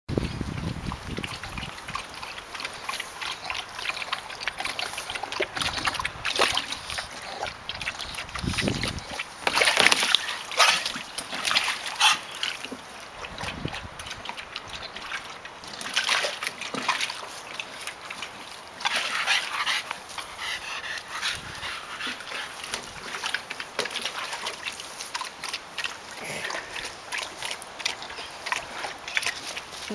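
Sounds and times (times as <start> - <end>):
puppies splashing in water: 0.1 - 29.9.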